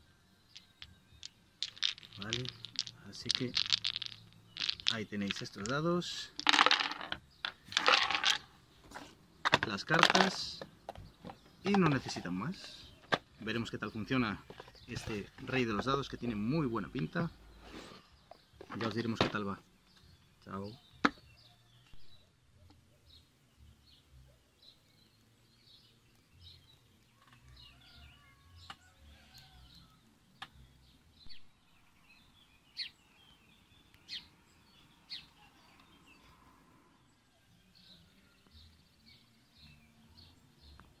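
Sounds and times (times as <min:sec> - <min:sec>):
faint birds chirping: 0:00.0 - 0:41.0.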